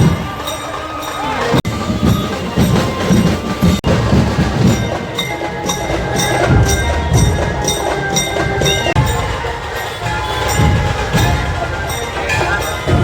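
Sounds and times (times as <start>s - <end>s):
deep drum beats: 0.0s - 0.8s, 1.4s - 13.0s.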